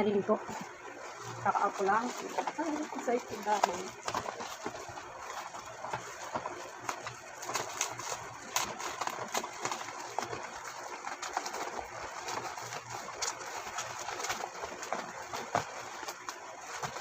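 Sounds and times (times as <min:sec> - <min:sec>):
packaging crinkling: 0:00.1 - 0:17.0.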